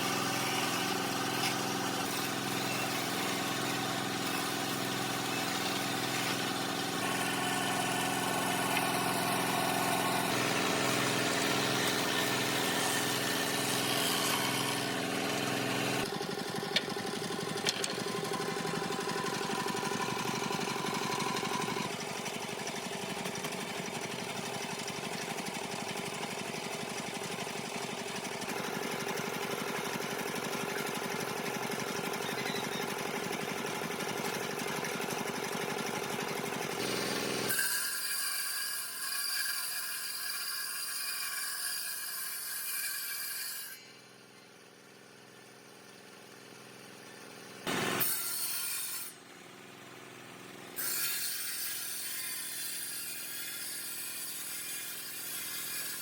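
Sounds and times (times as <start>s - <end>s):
power woodworking tools running: 0.0s - 56.0s.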